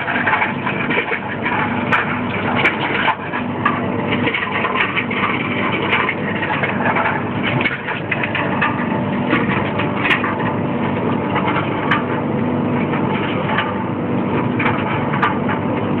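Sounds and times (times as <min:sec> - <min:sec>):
clicks and clatter: 0:00.0 - 0:16.0
machine humming: 0:00.0 - 0:16.0.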